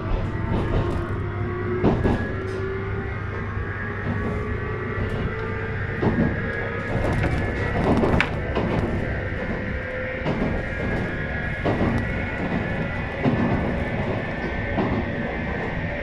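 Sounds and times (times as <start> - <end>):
electric train motor whine: 0.0 - 16.0
train running noise: 0.0 - 16.0.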